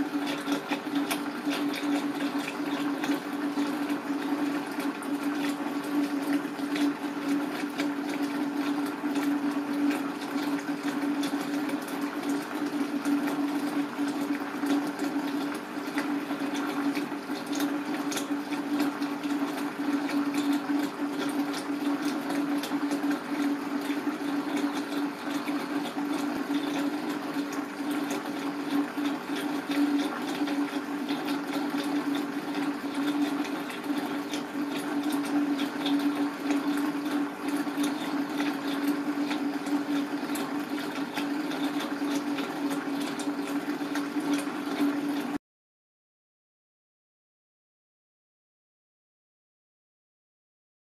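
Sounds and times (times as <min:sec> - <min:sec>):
running water: 0:00.0 - 0:45.4.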